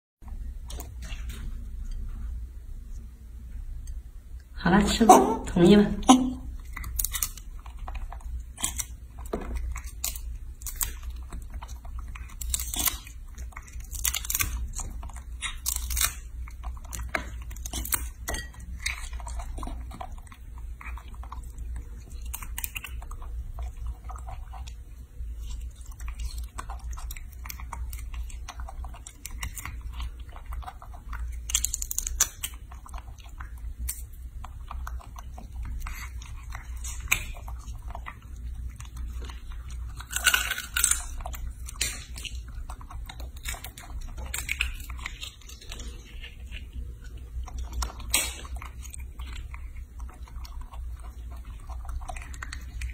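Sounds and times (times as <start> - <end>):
low steady hum: 0.2 - 52.9
monkey chewing crunchy fruit: 4.4 - 52.9.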